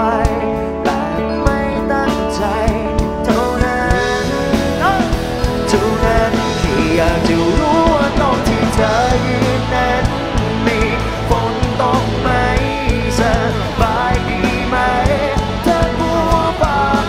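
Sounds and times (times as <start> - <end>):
live pop-rock band playing: 0.0 - 17.0.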